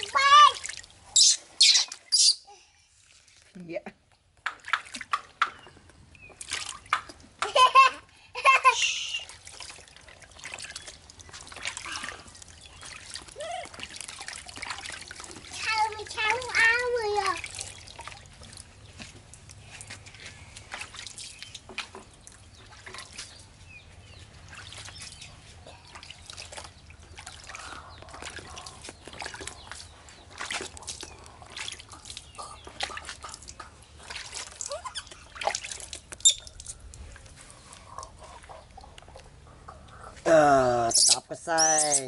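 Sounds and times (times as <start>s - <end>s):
water dripping and splashing in a tub: 0.0s - 42.0s.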